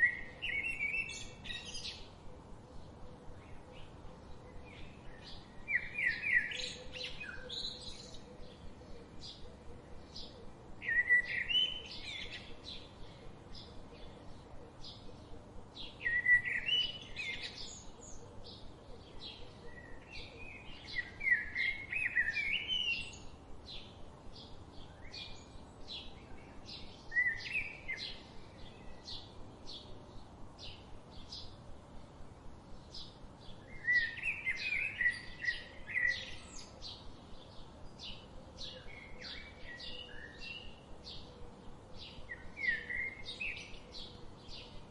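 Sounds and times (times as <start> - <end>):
loud warbling bird song: 0.0 - 31.8, 32.7 - 44.9.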